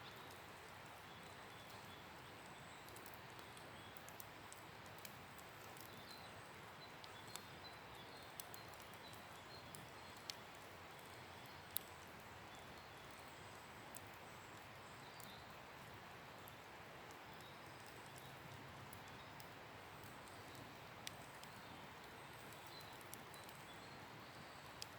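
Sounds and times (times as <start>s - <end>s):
campfire crackling: 0.0s - 24.9s
soft steady hiss: 0.0s - 24.9s.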